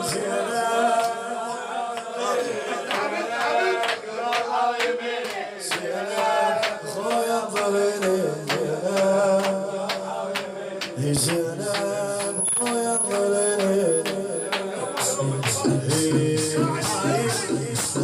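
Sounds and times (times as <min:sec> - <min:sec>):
men chanting: 0:00.0 - 0:18.0
rhythmic chest beating: 0:02.9 - 0:18.0.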